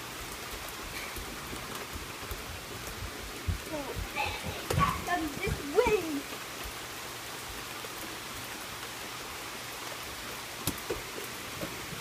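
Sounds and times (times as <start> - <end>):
rain on wooden deck: 0.0 - 12.0.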